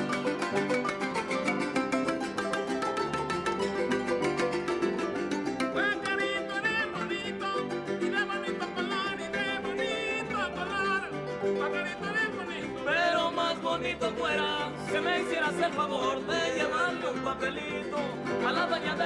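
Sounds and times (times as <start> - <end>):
plucked melody: 0.0 - 19.0
strummed string ensemble: 0.0 - 19.0.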